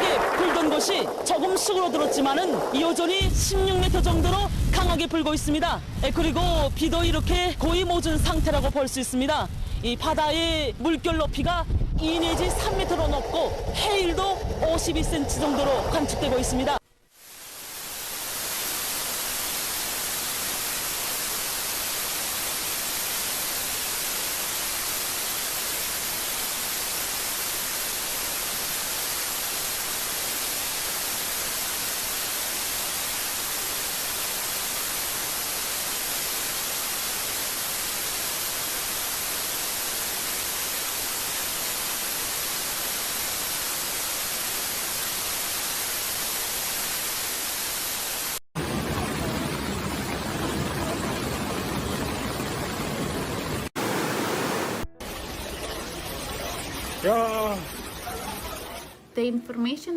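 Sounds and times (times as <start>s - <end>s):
static hiss: 0.0s - 48.4s, 51.6s - 59.2s.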